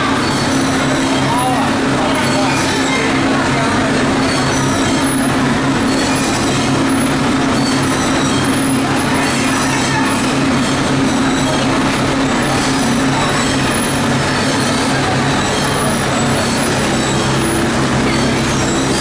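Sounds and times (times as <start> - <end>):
mechanical drone of machinery: 0.0 - 19.0.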